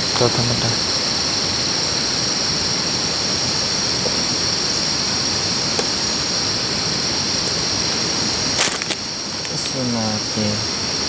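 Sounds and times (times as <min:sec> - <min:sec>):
broad hiss: 0:00.0 - 0:11.0
high-pitched insect drone: 0:00.0 - 0:11.0
insect trill: 0:00.0 - 0:11.0.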